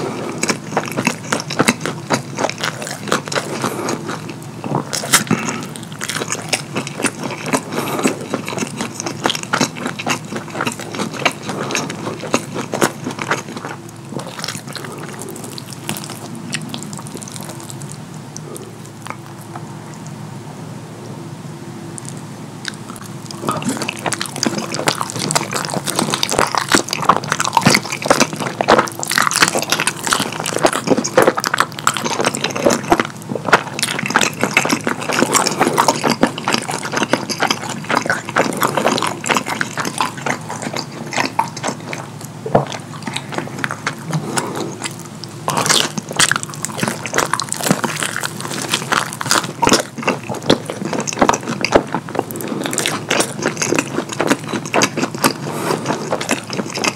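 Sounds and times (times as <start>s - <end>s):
wet chewing and lip-smacking: 0.0s - 20.2s, 22.0s - 56.9s.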